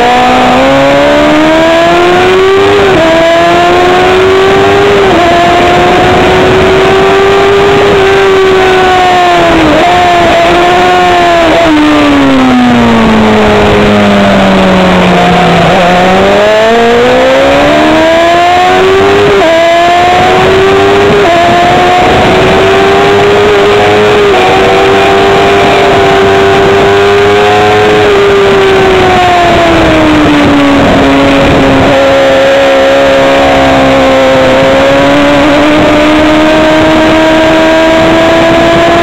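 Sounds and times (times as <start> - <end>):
racing motorcycle engine: 0.0 - 39.0.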